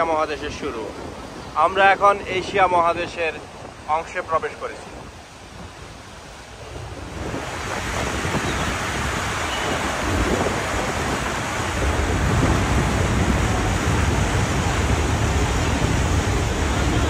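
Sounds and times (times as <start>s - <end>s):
rushing water in boat wake: 0.0s - 17.0s
wind rumbling on microphone: 0.0s - 17.0s.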